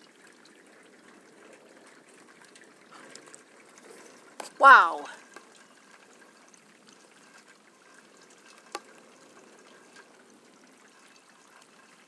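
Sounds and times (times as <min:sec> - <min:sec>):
rain and trickling runoff water: 0:00.0 - 0:12.0.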